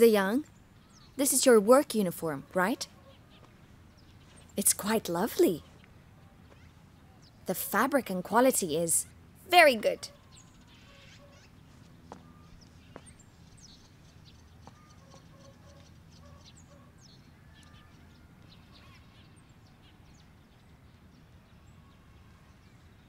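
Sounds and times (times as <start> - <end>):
low steady hum: 0.0 - 23.0
small birds chirping: 0.0 - 23.0.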